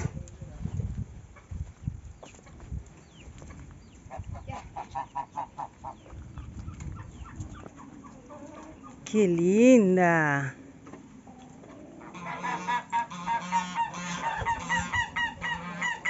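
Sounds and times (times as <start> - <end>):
chickens clucking: 0.0 - 9.0, 10.8 - 16.0.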